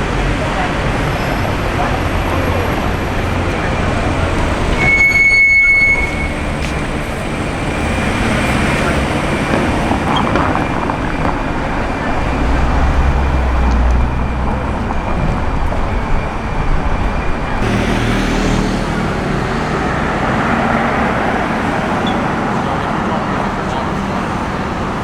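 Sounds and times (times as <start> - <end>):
car engines and tyre noise: 0.0 - 25.0
deep engine rumble: 0.0 - 25.0
engine hum: 0.0 - 25.0.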